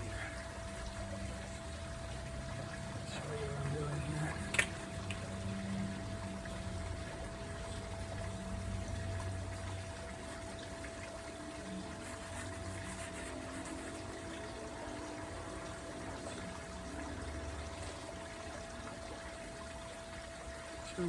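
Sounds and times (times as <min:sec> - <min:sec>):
background hum and hiss: 0:00.0 - 0:21.0.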